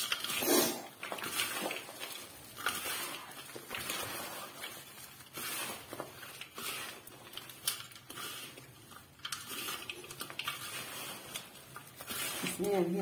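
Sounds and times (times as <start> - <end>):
gritty rustling swishes of crumbly mixture: 0.0 - 13.0.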